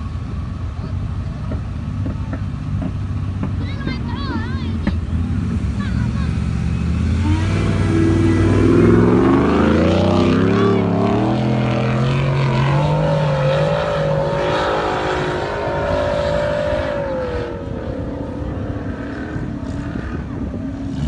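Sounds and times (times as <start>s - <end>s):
engine running hard under load: 0.0s - 21.0s.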